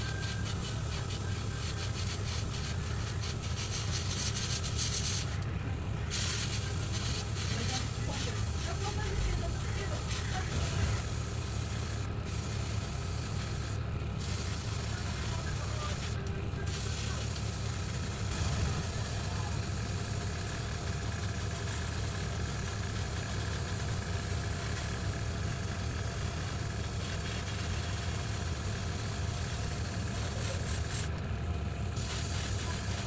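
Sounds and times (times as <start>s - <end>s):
mechanical hum with low rumble: 0.0s - 33.0s.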